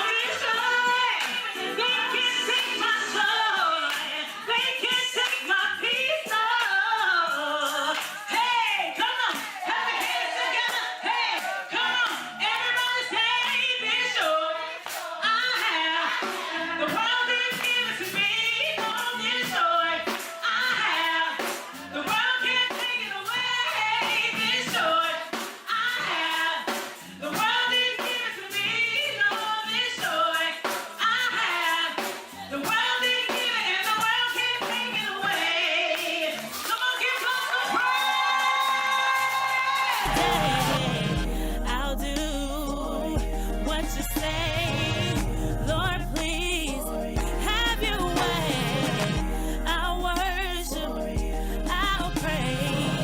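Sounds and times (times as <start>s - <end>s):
woman singing gospel: 0.0s - 53.0s.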